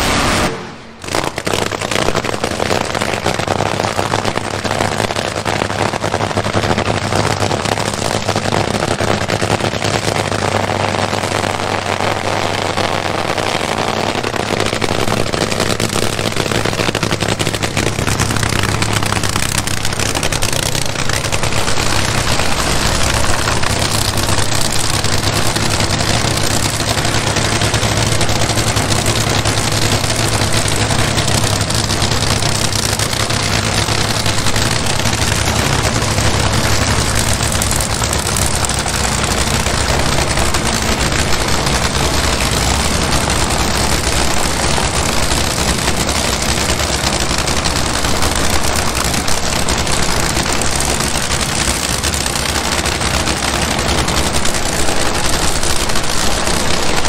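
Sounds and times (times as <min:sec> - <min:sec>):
drag racing engine running: 0:00.0 - 0:57.0.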